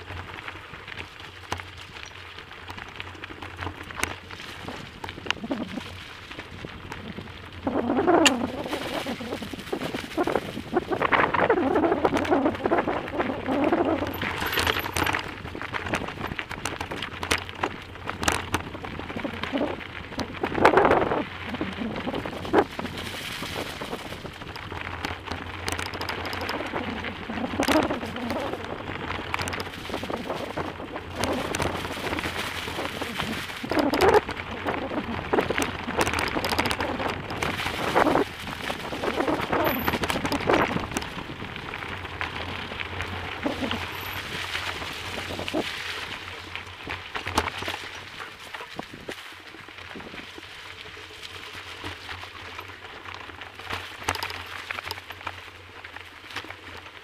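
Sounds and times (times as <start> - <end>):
bicycle rattling over bumps: 0.0 - 57.0
tyres crunching on gravel: 0.0 - 57.0
wind buffeting microphone: 4.3 - 50.4.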